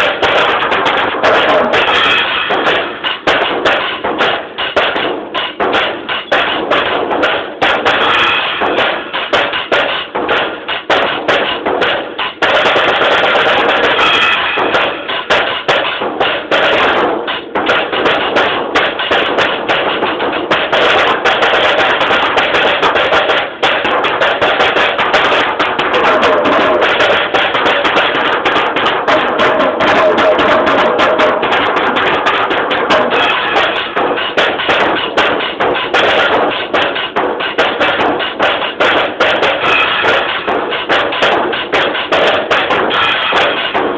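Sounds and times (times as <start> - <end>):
fast drum kit solo: 0.0 - 43.9.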